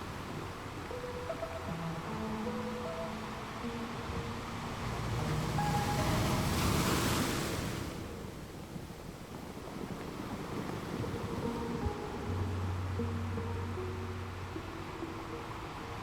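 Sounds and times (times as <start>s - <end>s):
soft music: 0.0s - 9.6s, 10.3s - 16.0s
sea waves breaking: 0.0s - 16.0s
surf washing: 0.0s - 16.0s.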